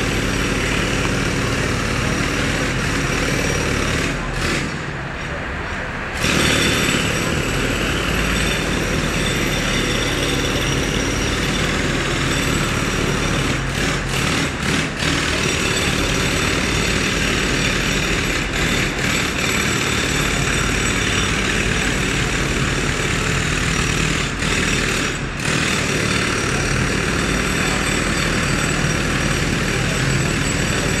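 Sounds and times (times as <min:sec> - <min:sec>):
heavy machinery engine: 0:00.0 - 0:31.0.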